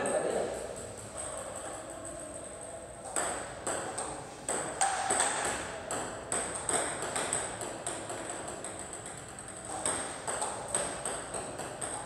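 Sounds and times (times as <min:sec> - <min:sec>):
paddle striking ping-pong ball: 0:00.0 - 0:12.0
ping-pong balls bouncing on table: 0:00.0 - 0:12.0.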